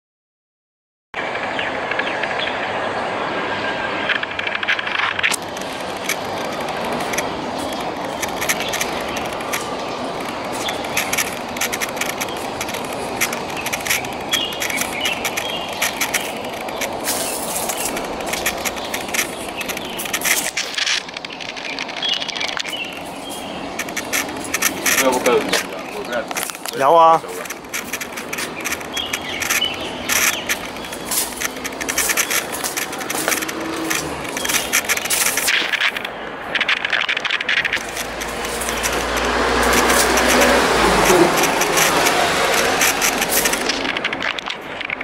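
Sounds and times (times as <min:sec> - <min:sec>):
outdoor background rush: 0:01.2 - 0:45.0
high chirps: 0:05.4 - 0:43.9.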